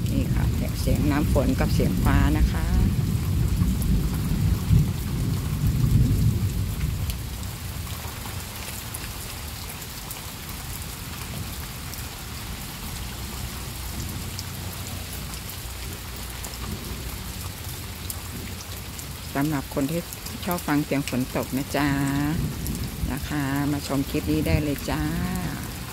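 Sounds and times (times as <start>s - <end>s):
thunder rumbling: 0.0s - 8.8s, 13.7s - 25.9s
rain falling on trees: 0.0s - 25.9s.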